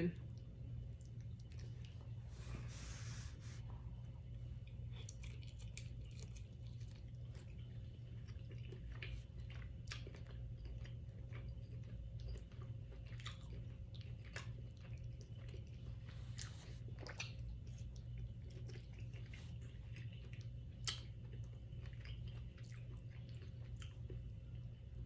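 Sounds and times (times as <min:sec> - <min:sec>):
steady low hum: 0:00.0 - 0:25.0
wet chewing smacks and clicks: 0:00.2 - 0:02.2, 0:04.2 - 0:24.8.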